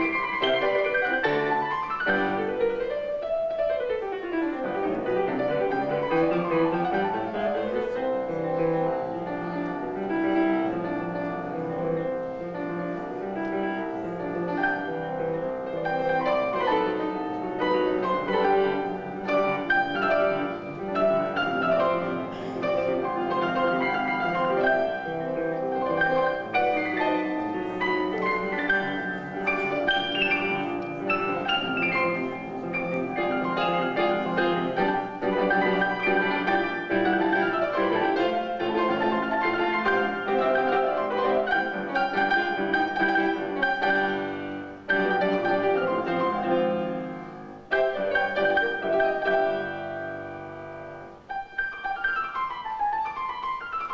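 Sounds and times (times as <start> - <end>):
grand piano duet: 0.0 - 53.9.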